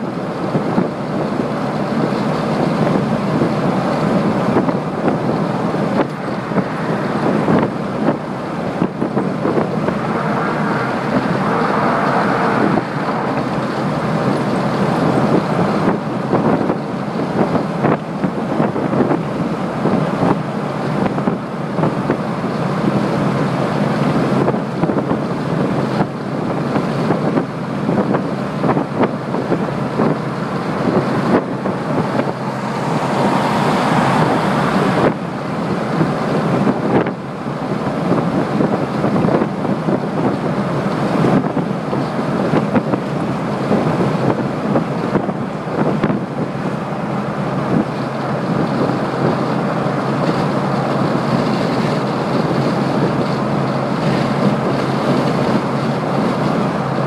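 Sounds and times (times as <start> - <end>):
road and wind noise in vehicle: 0.0 - 57.0
wind buffeting microphone: 0.0 - 57.0.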